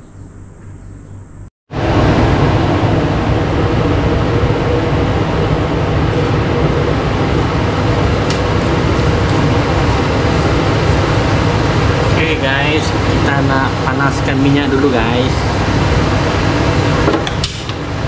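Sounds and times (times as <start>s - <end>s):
loud low rushing noise: 1.7s - 18.0s.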